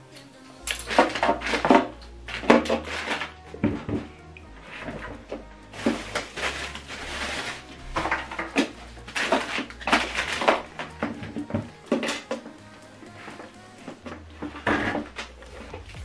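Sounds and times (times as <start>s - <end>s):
plastic packaging rustling: 0.7s - 16.0s.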